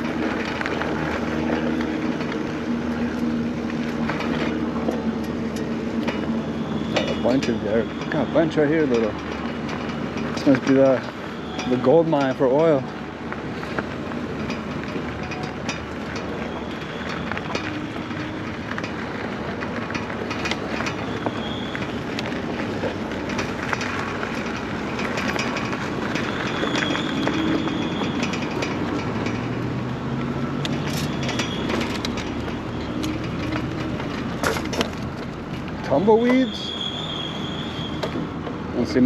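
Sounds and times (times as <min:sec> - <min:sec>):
bike rattling and clicking: 0:00.0 - 0:39.0
tyres crunching on gravel: 0:00.0 - 0:39.0.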